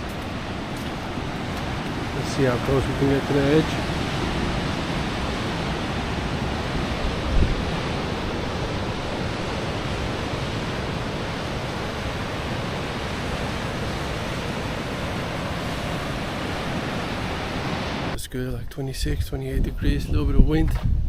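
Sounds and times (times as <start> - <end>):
sea surf: 0.0 - 18.2
wind buffeting microphone: 0.0 - 21.0.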